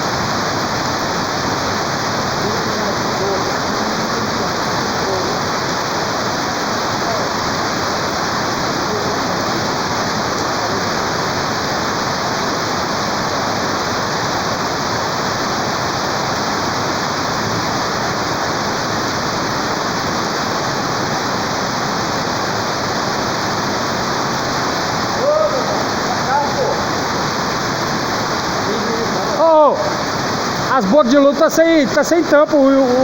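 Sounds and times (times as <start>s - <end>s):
heavy rain downpour: 0.0s - 33.0s
rushing runoff water: 0.0s - 33.0s.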